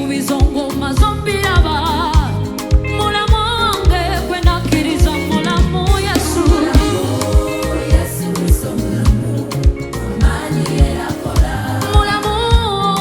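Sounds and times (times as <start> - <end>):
gospel band playing: 0.0 - 13.0
kick drum beats: 0.4 - 12.8.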